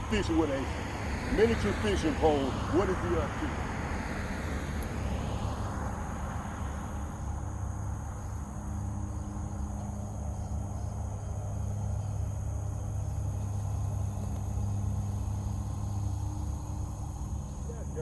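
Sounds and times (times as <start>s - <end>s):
insects trilling: 0.0s - 18.0s
road traffic rumble: 0.0s - 18.0s.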